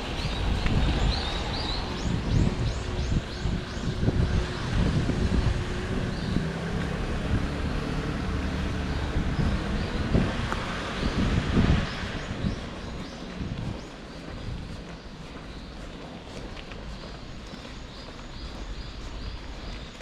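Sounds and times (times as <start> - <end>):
low engine-like hum: 0.0 - 19.9
steady rushing noise with rumble: 0.0 - 19.9.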